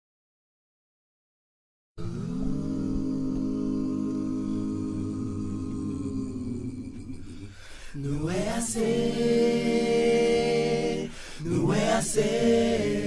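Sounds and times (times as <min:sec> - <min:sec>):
men singing in harmony: 0:02.0 - 0:13.0.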